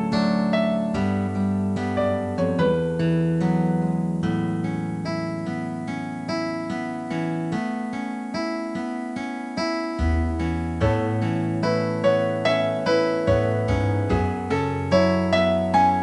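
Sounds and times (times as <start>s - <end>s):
slow keyboard tune: 0.0s - 16.0s.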